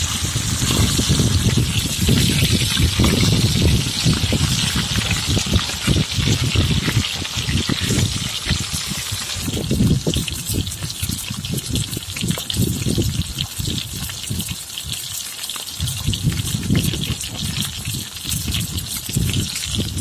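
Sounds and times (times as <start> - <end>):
low pops of frying oil: 0.0 - 20.0
oil sizzling around frying fish: 0.0 - 20.0.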